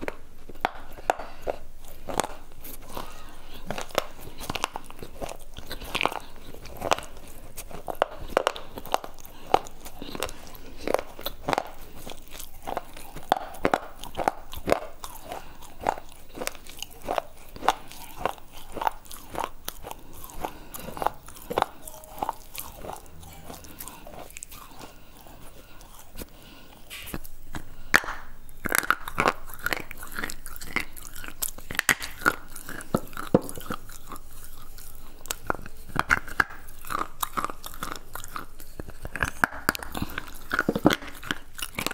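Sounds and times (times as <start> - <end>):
crunchy chewing: 0.0 - 41.9.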